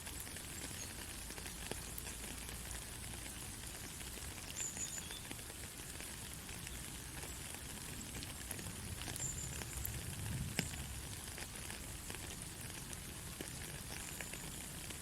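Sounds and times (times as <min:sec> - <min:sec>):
soft rain falling: 0:00.0 - 0:15.0.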